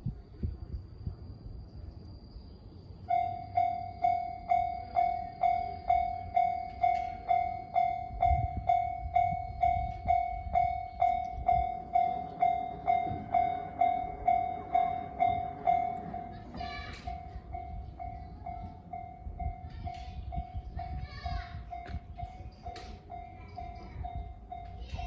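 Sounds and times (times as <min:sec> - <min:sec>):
level crossing warning bell: 0:03.1 - 0:25.0.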